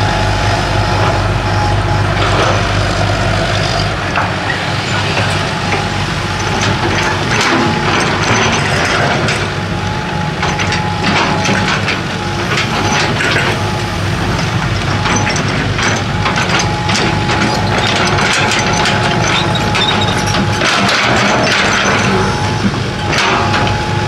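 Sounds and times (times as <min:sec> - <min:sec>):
excavator diesel engine running: 0:00.0 - 0:24.0
high whine: 0:00.0 - 0:24.0.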